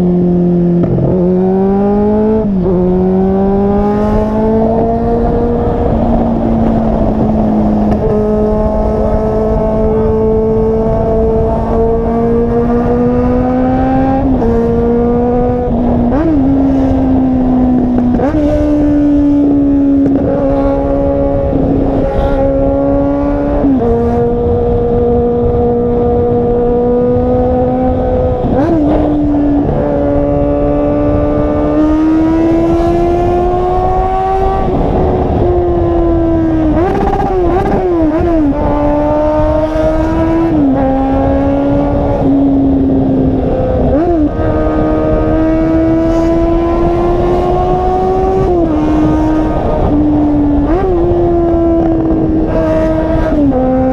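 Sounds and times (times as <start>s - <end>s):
car engine revving at high revs: 0.0s - 53.9s.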